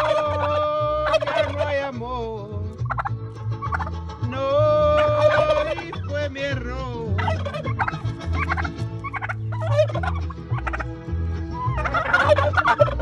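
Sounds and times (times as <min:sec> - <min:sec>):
turkeys gobbling: 0:00.0 - 0:13.0.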